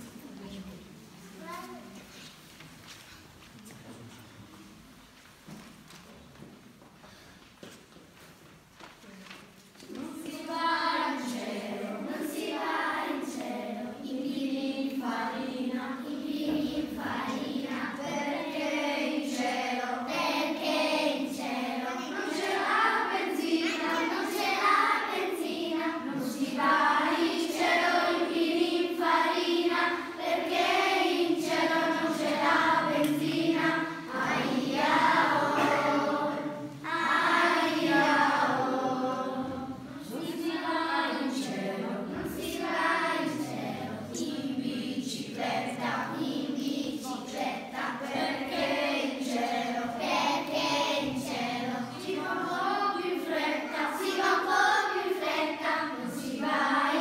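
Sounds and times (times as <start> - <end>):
children's choir singing: 9.8 - 57.0.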